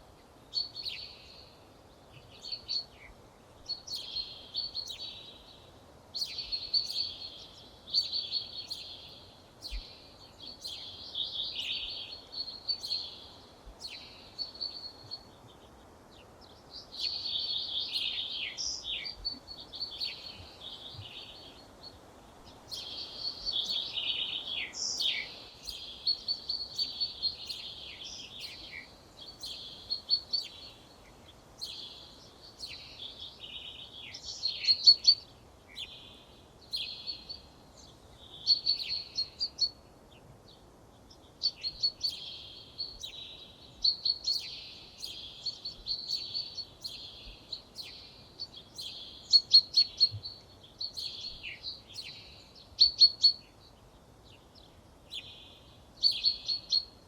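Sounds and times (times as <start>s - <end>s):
songbird twittering: 2.2s - 15.7s, 16.4s - 39.8s, 41.1s - 57.0s.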